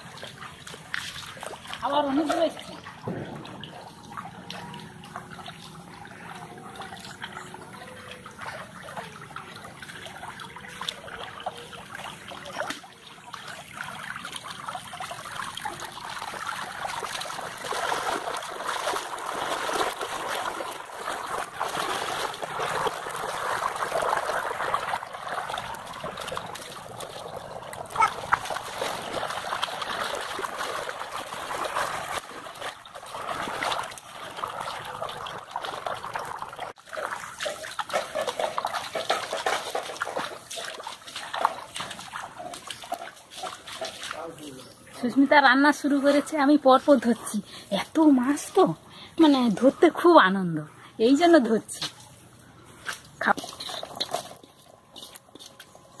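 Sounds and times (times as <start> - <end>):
sharp water splashes: 0.0 - 50.5
water trickling and splashing: 0.0 - 56.0.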